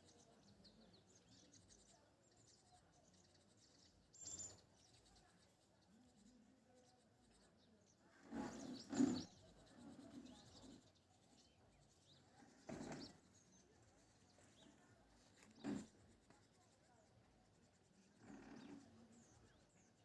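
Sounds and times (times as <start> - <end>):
faint high chirps: 0.0 - 16.7.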